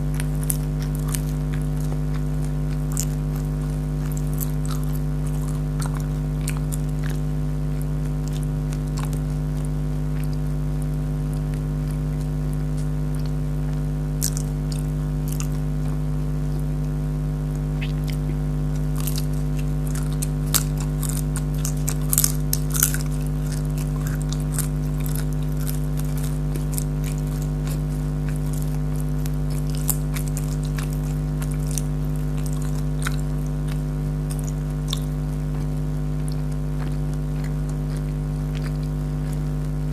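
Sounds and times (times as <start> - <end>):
crisp bites and chewing: 0.0 - 16.0, 16.6 - 39.9
steady low hum: 0.0 - 39.9.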